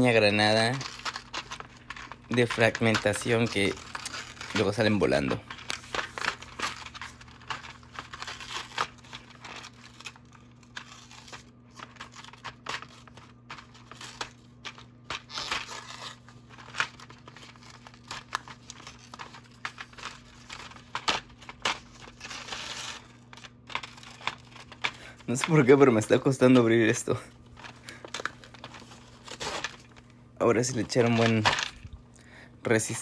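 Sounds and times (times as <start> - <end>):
packaging crinkling and tearing: 0.0 - 32.2.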